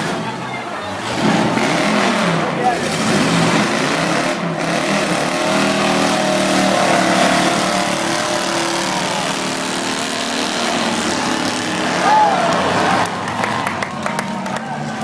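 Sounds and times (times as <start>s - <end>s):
car engines running and revving: 0.0s - 15.0s.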